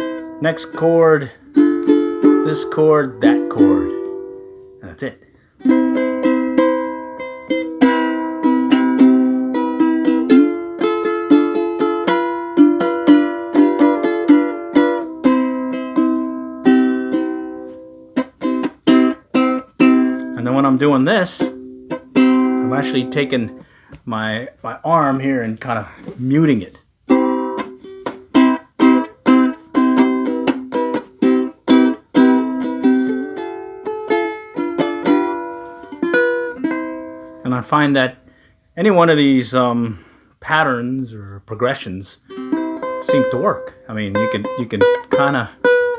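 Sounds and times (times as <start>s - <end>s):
ukulele plucked chords: 0.0s - 23.7s, 27.1s - 37.6s, 42.2s - 45.9s.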